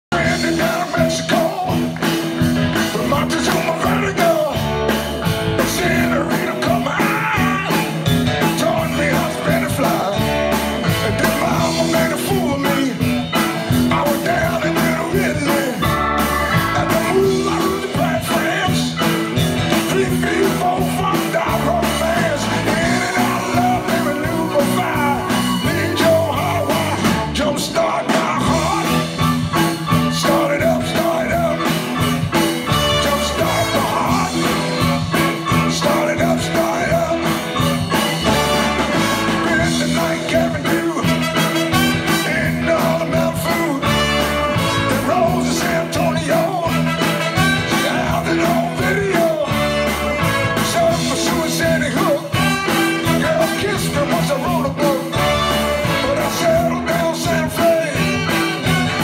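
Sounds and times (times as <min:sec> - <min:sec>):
lead singer: 0:00.0 - 0:59.0
soul band playing live: 0:00.1 - 0:59.0.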